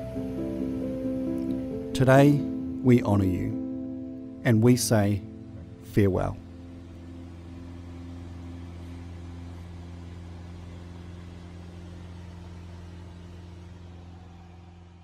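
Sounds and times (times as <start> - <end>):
aircraft engine drone in cabin: 0.0 - 15.0.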